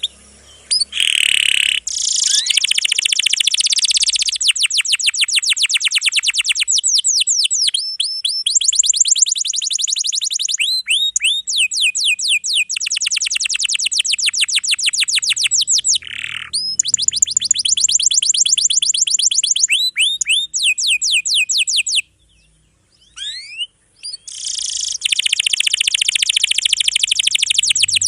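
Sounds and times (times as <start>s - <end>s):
canary singing: 0.0s - 28.0s.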